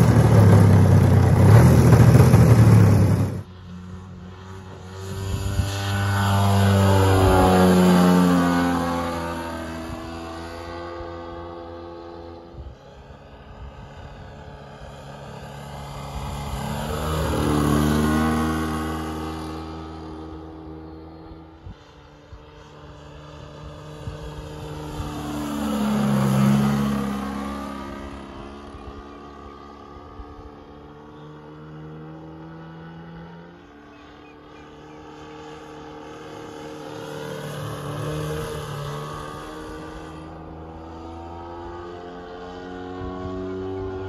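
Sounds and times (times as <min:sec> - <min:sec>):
model airplane engine flying by: 0:00.0 - 0:44.0.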